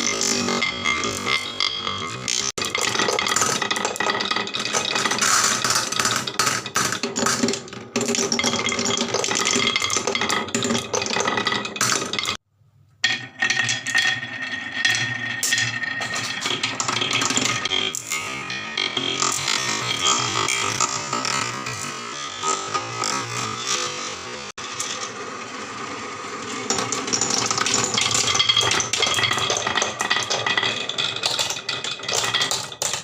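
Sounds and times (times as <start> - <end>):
marbles clattering down a marble run: 0.0 - 12.4, 13.0 - 33.0.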